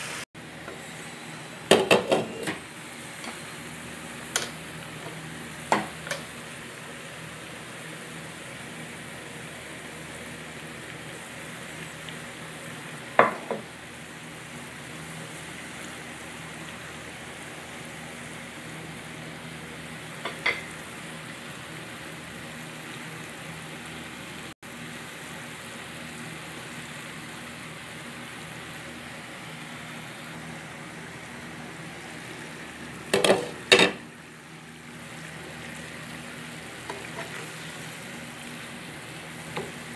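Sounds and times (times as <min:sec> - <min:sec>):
squash sizzling in pan: 0:00.0 - 0:39.9.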